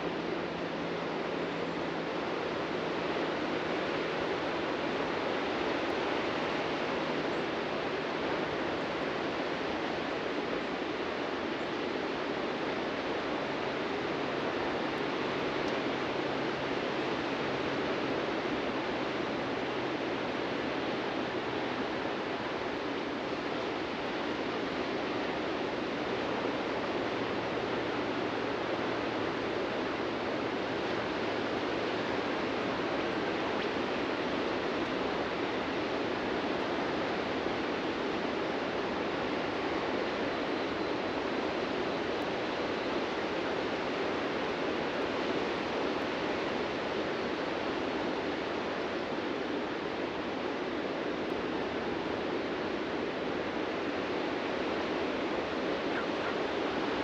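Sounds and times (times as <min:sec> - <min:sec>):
ocean surf washing on a beach: 0:00.0 - 0:57.0.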